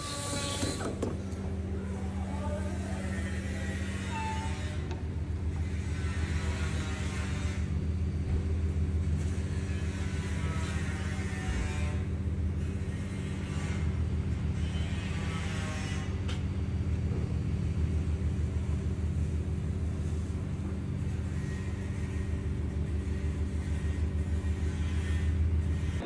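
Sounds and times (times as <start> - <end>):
low machine hum with pulsing beat: 0.0 - 26.0.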